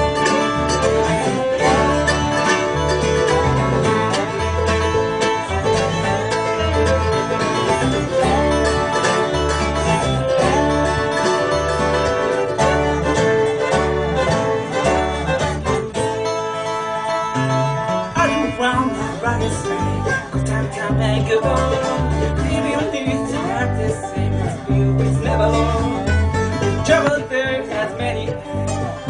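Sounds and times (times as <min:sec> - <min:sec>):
bluegrass band playing: 0:00.0 - 0:29.0
low bass notes: 0:00.0 - 0:29.0.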